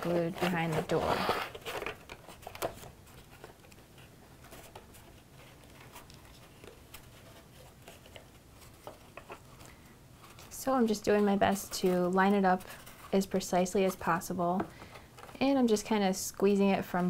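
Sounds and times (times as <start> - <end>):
cardstock rustling and ticking: 0.0 - 17.0.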